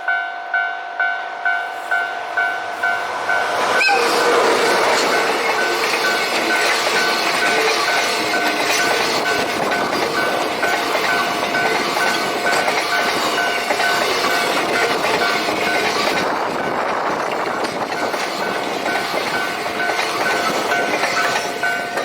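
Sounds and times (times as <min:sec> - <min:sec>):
crossing warning bell: 0:00.0 - 0:22.0
train wheels clattering on rails: 0:02.7 - 0:22.0.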